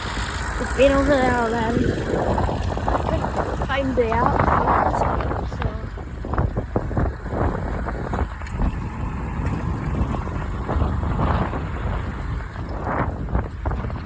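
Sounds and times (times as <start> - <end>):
tractor engines rumbling: 0.0 - 14.0
wind buffeting microphone: 0.0 - 14.0.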